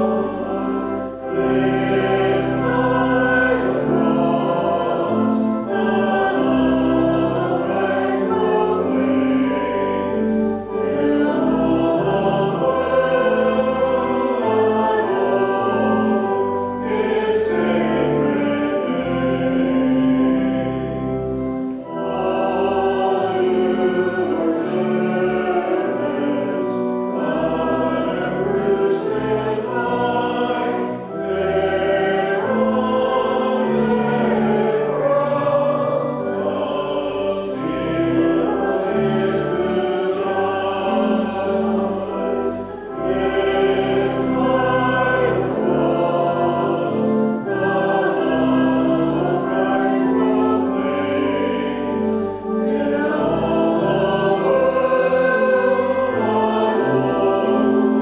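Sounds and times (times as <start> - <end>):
congregation singing a hymn: 0.0 - 58.0
sustained instrumental accompaniment: 0.0 - 58.0.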